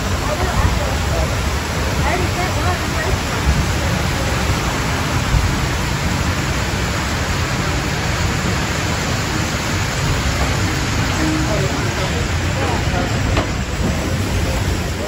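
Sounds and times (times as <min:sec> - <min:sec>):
water rushing down ramp: 0:00.0 - 0:15.0.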